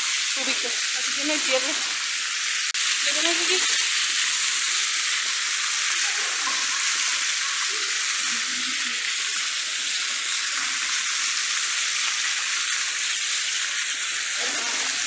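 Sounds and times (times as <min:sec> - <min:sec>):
fountain jets splashing into water: 0:00.0 - 0:15.0.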